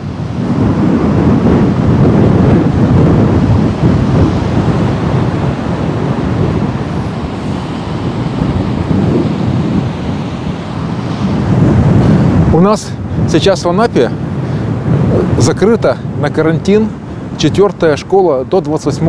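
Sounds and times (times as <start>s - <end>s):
waves breaking on sandy shore: 0.0s - 19.0s
wind buffeting microphone: 0.0s - 19.0s.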